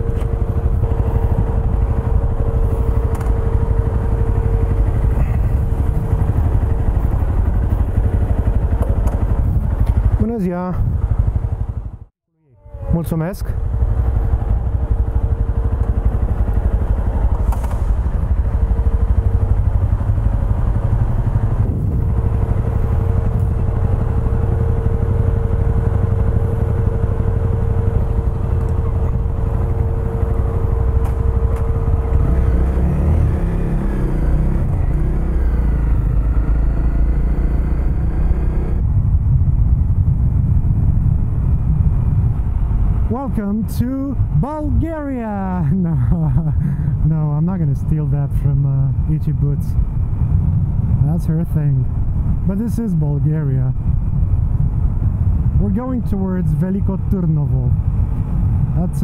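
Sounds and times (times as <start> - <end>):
motorcycle engine: 0.0 - 49.0.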